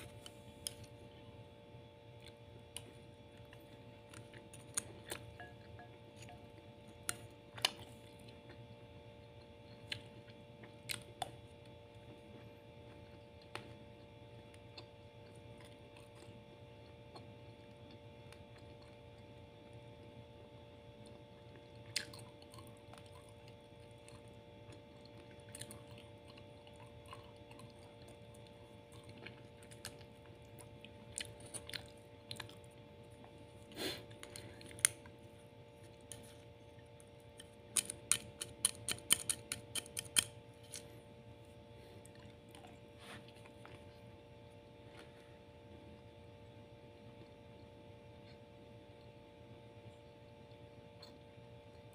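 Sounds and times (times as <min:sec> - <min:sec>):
person chewing food: 0:00.0 - 0:01.4, 0:02.1 - 0:46.4, 0:47.0 - 0:49.2, 0:50.0 - 0:51.9
steady electrical hum: 0:00.0 - 0:51.9.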